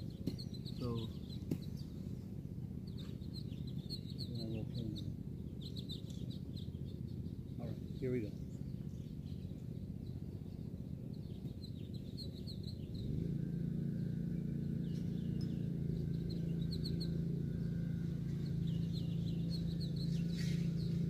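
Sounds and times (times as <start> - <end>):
birds chirping: 0.0 - 21.0
low motor hum: 0.0 - 21.0.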